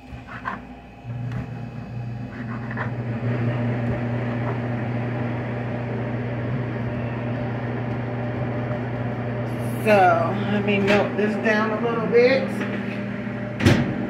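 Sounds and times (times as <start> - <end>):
machine hum with airy rush: 0.0 - 14.0.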